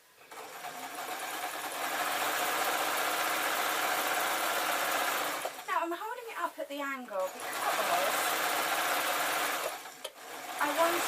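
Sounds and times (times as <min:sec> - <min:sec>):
sewing machine stitching: 0:00.2 - 0:05.7, 0:07.1 - 0:11.0.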